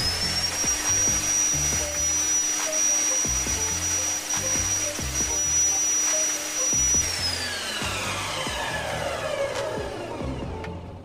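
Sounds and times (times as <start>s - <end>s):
saw motor whining: 0.0s - 11.0s.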